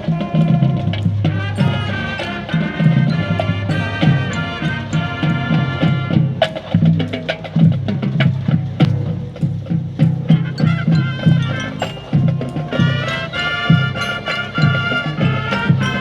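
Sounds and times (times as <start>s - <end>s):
marching band drums: 0.0s - 16.0s
wind instruments holding chords: 0.0s - 16.0s.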